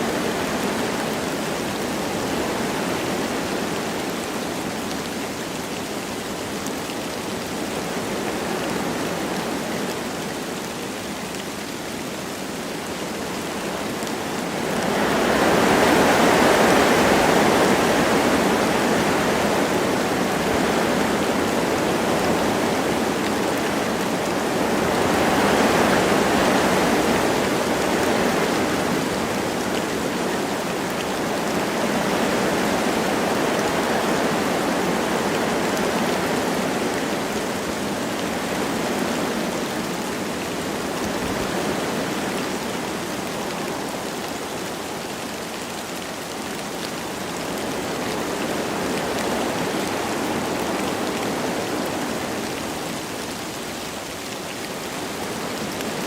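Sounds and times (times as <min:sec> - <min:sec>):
light rain falling: 0:00.0 - 0:56.0
wind rushing through trees: 0:00.0 - 0:56.0.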